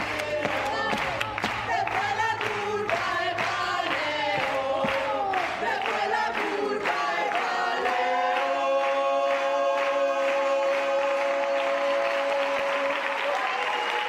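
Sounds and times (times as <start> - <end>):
group of voices singing: 0.0 - 13.5.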